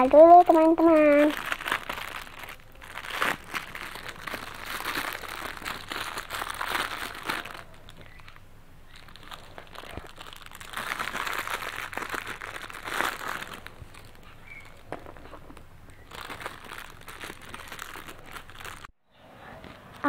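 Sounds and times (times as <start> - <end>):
plastic bag crinkling: 0.0 - 18.9.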